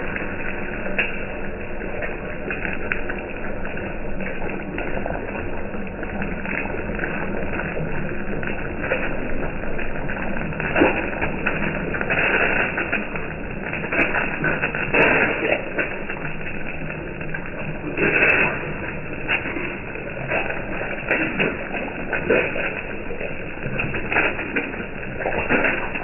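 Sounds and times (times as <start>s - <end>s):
egg sizzling with crackling pops: 0.0s - 26.0s.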